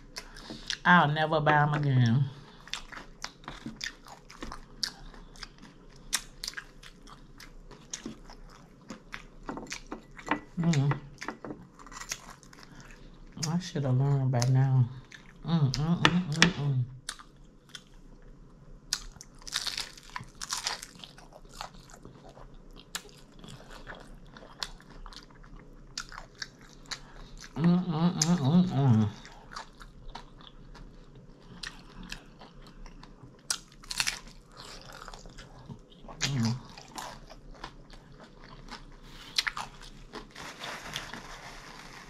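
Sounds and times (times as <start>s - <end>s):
crunchy fried food chewing: 2.3s - 13.4s, 17.0s - 27.6s, 29.1s - 42.0s.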